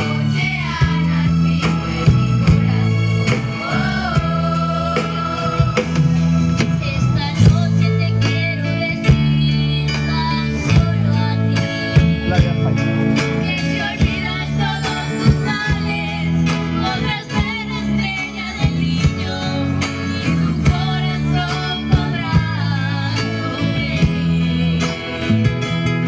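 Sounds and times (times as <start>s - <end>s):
band playing a song: 0.0s - 26.0s
guitar: 0.0s - 26.0s.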